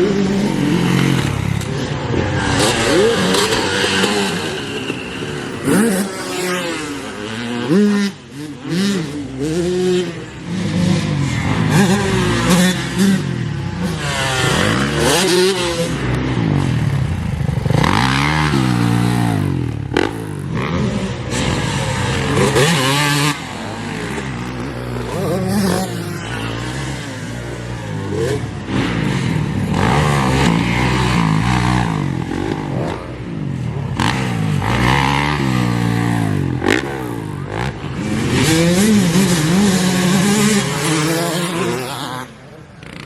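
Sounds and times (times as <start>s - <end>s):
dirt bikes revving: 0.0s - 43.0s.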